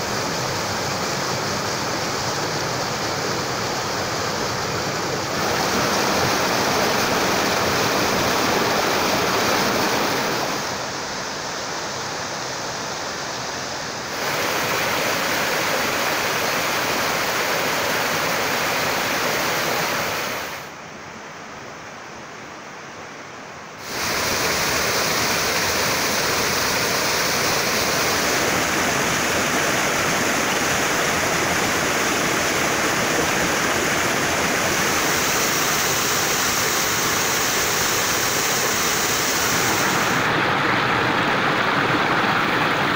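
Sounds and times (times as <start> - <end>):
waterfall rushing water: 0.0 - 21.0, 23.7 - 42.9.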